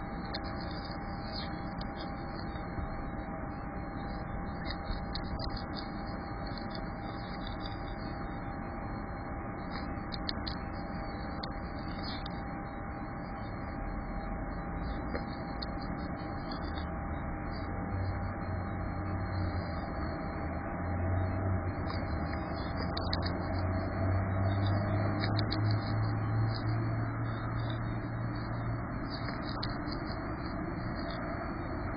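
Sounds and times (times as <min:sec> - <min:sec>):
low hum: 0:00.0 - 0:31.9
mid-pitched hum: 0:00.0 - 0:31.9.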